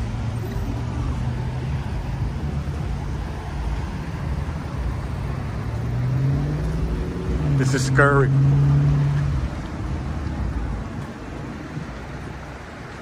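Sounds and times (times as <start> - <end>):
vehicle pulling away: 0.0 - 10.6
car engine hum: 0.0 - 13.0
traffic noise: 0.0 - 13.0.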